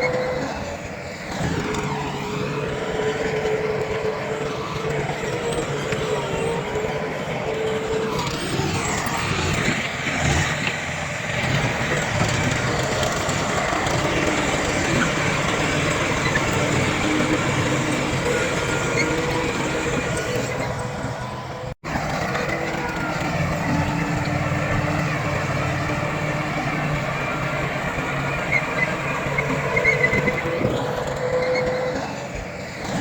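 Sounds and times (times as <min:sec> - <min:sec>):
heavy diesel machinery running: 0:00.0 - 0:33.0.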